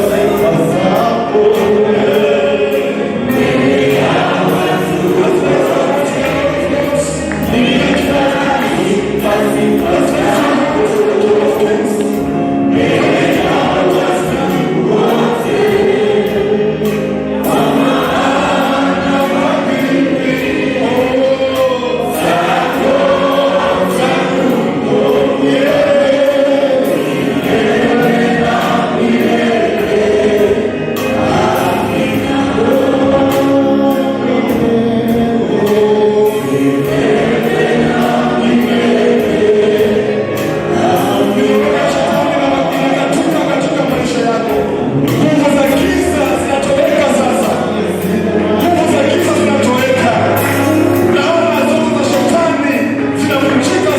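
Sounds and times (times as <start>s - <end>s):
choir singing gospel: 0.0s - 53.9s.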